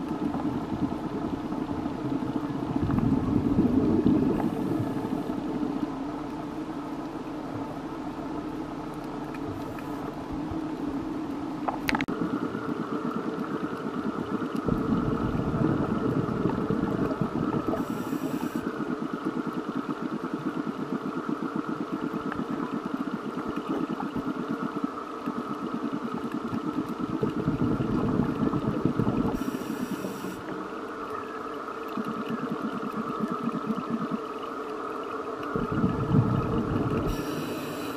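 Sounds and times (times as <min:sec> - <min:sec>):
boat engine droning underwater: 0:00.0 - 0:37.9.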